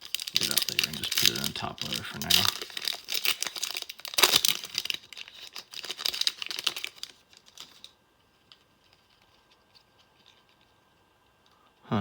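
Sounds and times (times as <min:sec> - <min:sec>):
packaging crinkling and clicking: 0:00.0 - 0:10.7.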